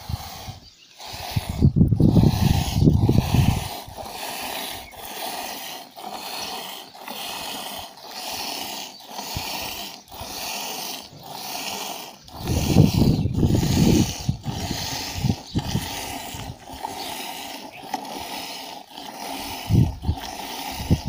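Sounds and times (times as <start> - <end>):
milk squirts hissing into pail: 0.0 - 21.0.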